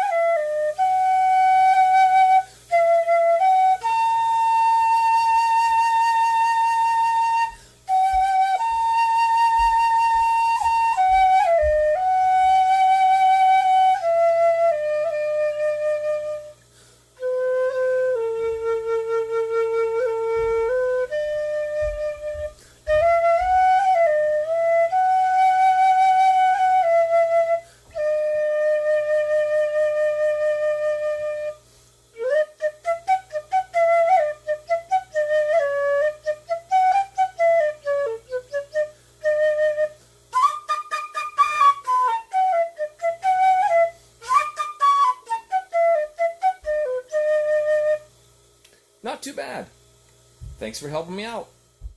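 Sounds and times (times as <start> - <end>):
fife playing: 0.0 - 16.6, 17.2 - 31.6, 32.2 - 48.1.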